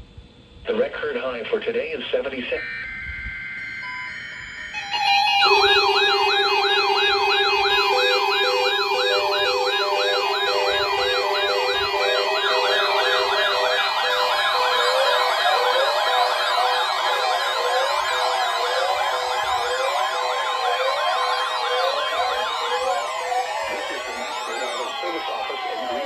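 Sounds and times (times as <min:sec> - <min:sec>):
electronic siren wailing: 0:02.4 - 0:26.0
on-off beeping tone: 0:02.4 - 0:26.0
steady alert tones: 0:02.4 - 0:26.0.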